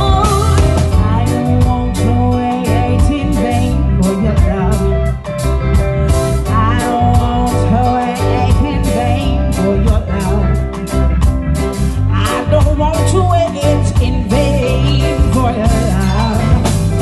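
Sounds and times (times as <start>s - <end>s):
woman singing: 0.0s - 5.2s, 6.4s - 10.9s, 12.1s - 17.0s
drum kit: 0.0s - 17.0s
electric bass line: 0.0s - 17.0s
electric guitar: 0.0s - 17.0s
keyboard: 0.0s - 17.0s.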